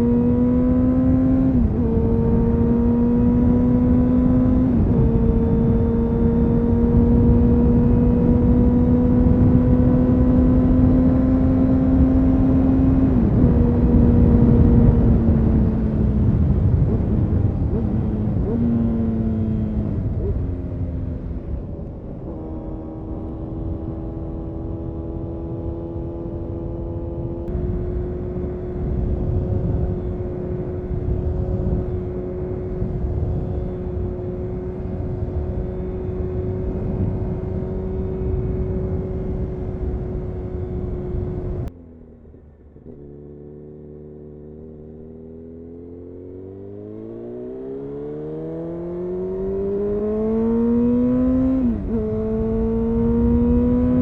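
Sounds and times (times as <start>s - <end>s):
motorcycle engine running: 0.0s - 47.2s.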